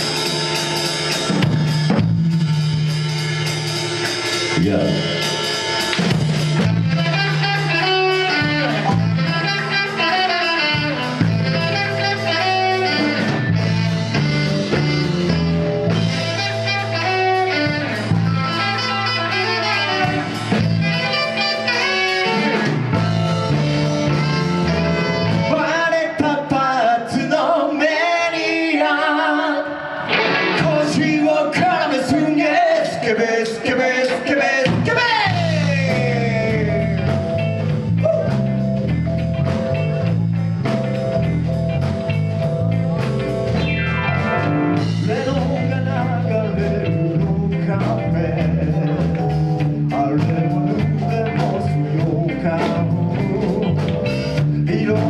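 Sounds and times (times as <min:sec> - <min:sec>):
repeating bass line: 0:00.0 - 0:25.9, 0:35.2 - 0:55.0
lead guitar melody: 0:00.0 - 0:26.0, 0:29.7 - 0:31.3, 0:35.3 - 0:55.0
live band playing: 0:00.0 - 0:55.0.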